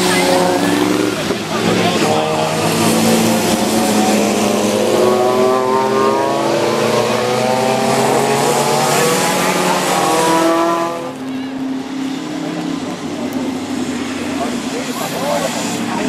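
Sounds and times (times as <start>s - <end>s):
racing car engines at high revs: 0.0s - 16.0s.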